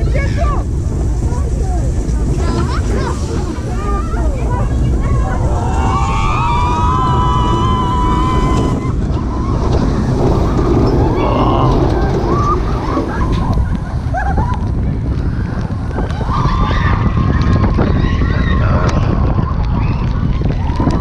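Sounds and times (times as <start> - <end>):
roller coaster rumbling on track: 0.0 - 21.0
wind buffeting microphone: 0.0 - 21.0.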